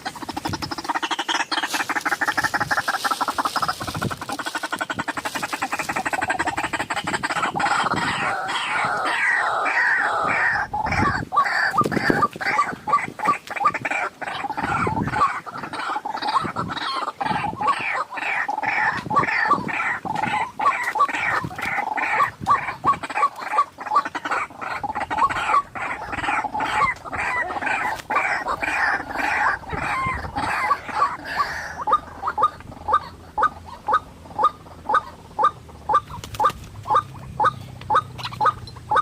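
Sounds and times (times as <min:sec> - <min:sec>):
bird calling harshly: 0:00.0 - 0:39.0.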